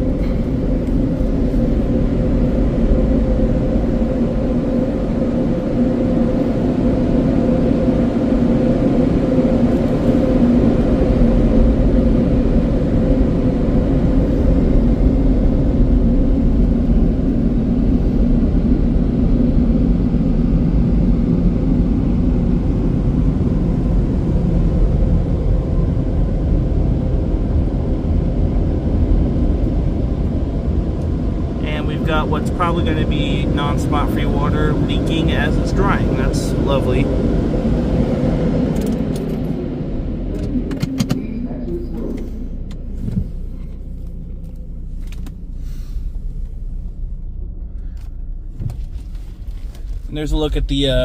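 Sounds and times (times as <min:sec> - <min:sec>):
air dryers roaring: 0:00.0 - 0:51.0
constant hum: 0:00.0 - 0:51.0.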